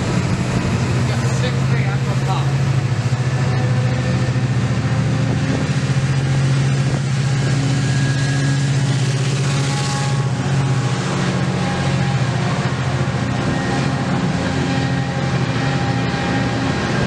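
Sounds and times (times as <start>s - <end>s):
diesel locomotive engine drone: 0.0s - 17.0s
passenger coaches rolling by: 0.0s - 17.0s.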